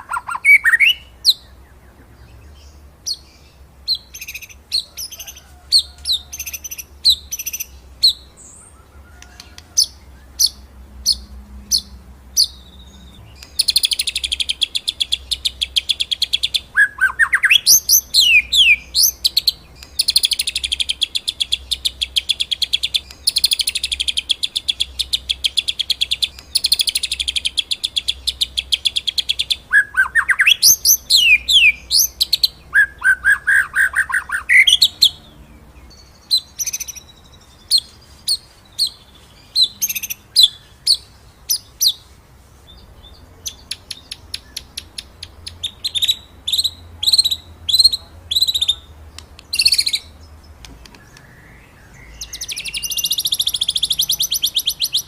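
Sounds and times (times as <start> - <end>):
bird singing trills and whistles: 0.0 - 42.0, 42.7 - 55.0.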